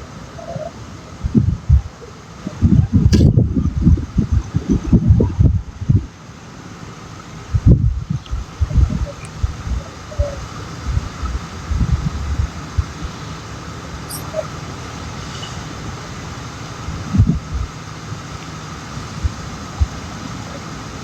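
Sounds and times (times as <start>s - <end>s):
background traffic noise: 0.0s - 21.0s
wind buffeting microphone: 0.0s - 21.0s.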